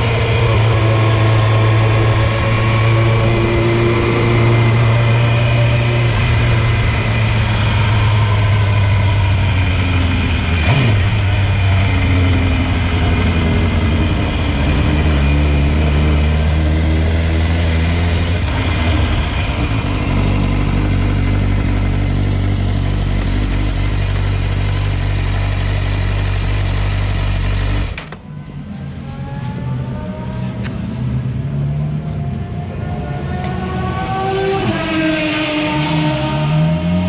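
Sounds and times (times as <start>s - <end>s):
motorbike accelerating: 0.0s - 28.1s, 28.8s - 37.0s
racing motorbike engines: 0.0s - 37.0s
road and wind noise: 0.0s - 37.0s.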